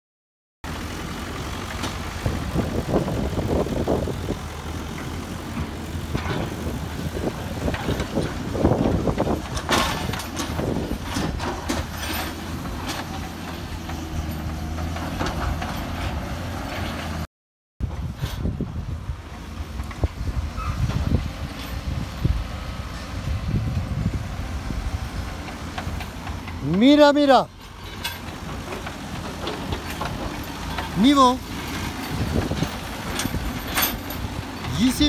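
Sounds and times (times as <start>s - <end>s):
diesel engine running under load: 0.6s - 35.0s.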